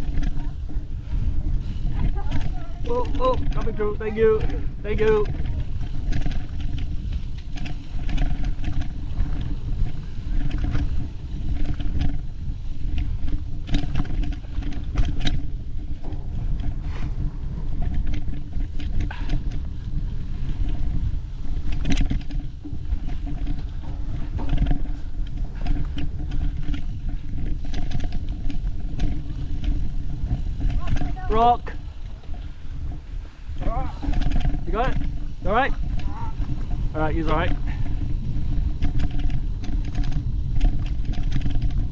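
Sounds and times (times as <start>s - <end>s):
bike clicks and rattles: 0.0s - 41.9s
wind rumble on microphone: 0.0s - 41.9s.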